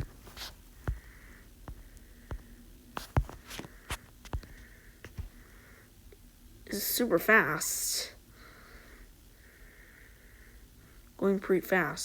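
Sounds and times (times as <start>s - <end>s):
ceiling fan hum: 0.0s - 12.0s.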